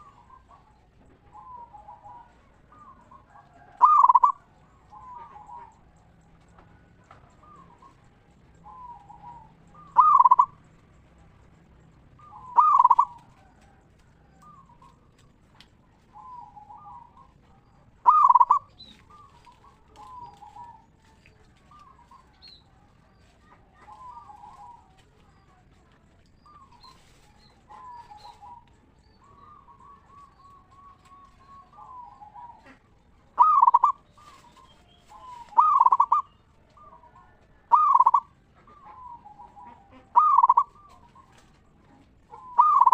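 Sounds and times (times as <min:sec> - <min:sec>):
doves cooing: 0:00.0 - 0:42.9.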